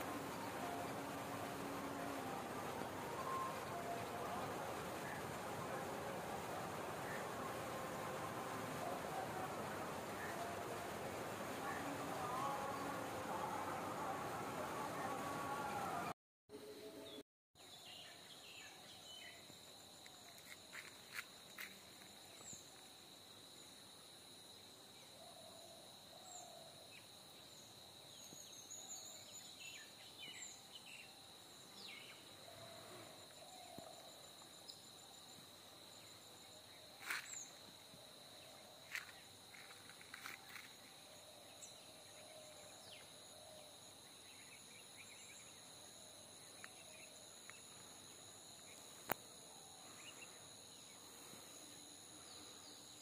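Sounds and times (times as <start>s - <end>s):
insect drone: 0.0s - 16.0s, 16.6s - 53.0s.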